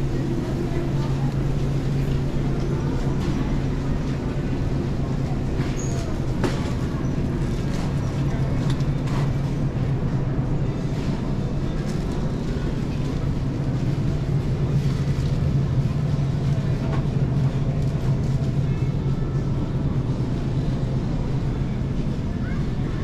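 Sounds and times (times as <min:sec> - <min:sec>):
faint voices: 0:00.0 - 0:23.0
steady low hum: 0:00.0 - 0:23.0.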